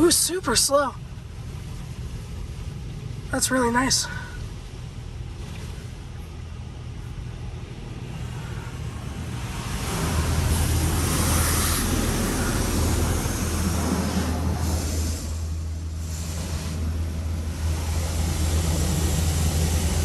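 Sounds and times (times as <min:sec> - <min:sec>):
steady low hum: 0:00.0 - 0:20.0
water jets spraying car: 0:00.0 - 0:20.0.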